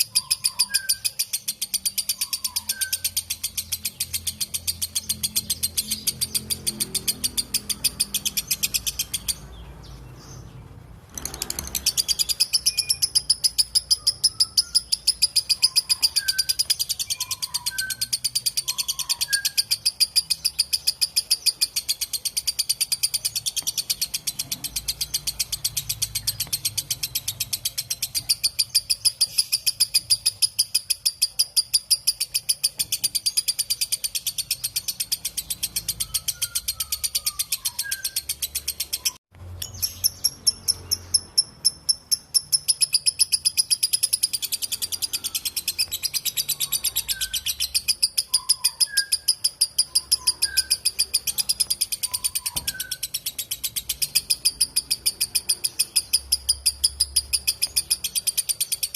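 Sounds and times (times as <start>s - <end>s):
lovebird chattering trill: 0.0s - 58.9s.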